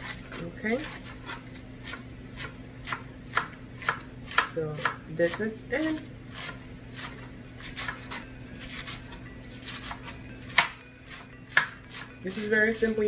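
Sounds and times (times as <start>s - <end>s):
knife slicing lettuce on cutting board: 0.0s - 13.0s.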